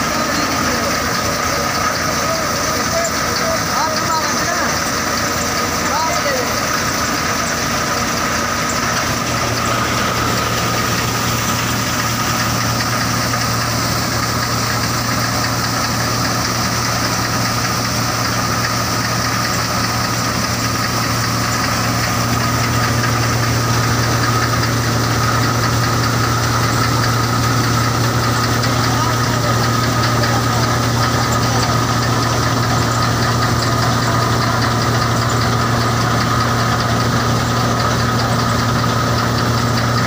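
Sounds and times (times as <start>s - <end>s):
threshing machine running: 0.0s - 40.0s.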